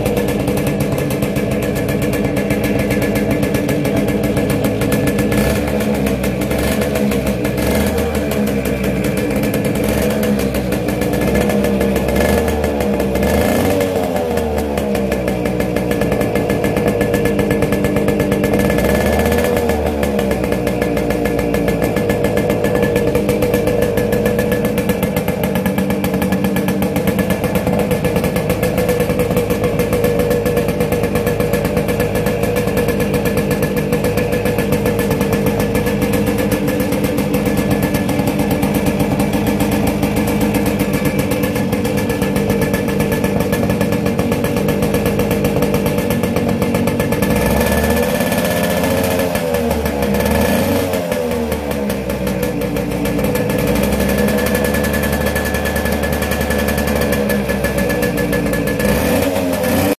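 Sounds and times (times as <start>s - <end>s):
motorcycle engine idling: 0.0s - 60.0s.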